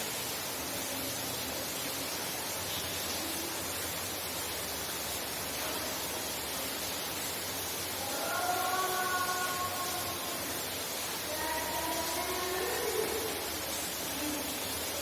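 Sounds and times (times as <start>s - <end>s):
heavy rain heard indoors: 0.0s - 15.0s.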